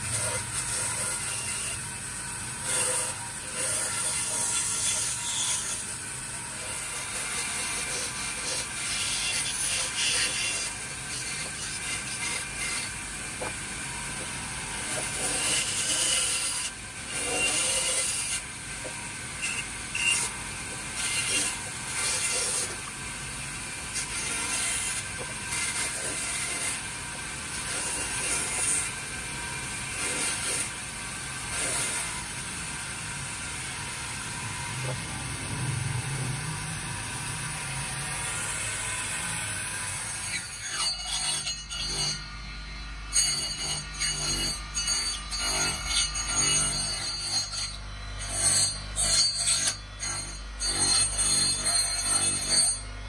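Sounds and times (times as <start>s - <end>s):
bandsaw blade cutting wood: 0.0s - 42.3s, 43.0s - 52.9s
bandsaw hum: 0.0s - 53.0s.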